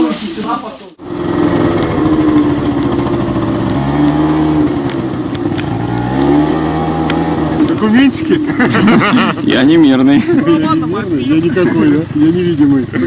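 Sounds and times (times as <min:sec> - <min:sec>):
vehicle engine running: 0:00.9 - 0:13.0.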